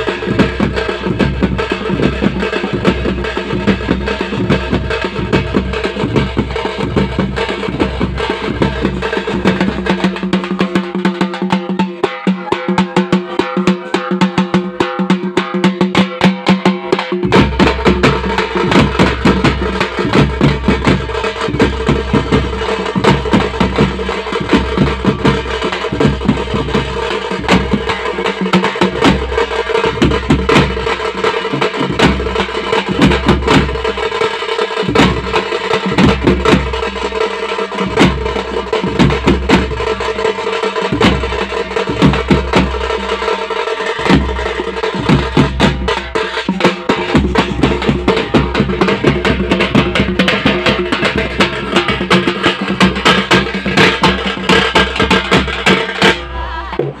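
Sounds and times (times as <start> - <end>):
bass drums beating fast rhythm: 0.0 - 57.0
snare drum beaten with sticks: 0.0 - 57.0.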